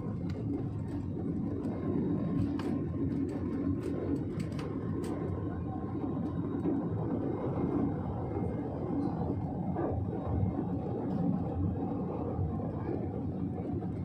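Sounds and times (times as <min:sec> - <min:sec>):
jet engines rumbling in cabin: 0:00.0 - 0:14.0.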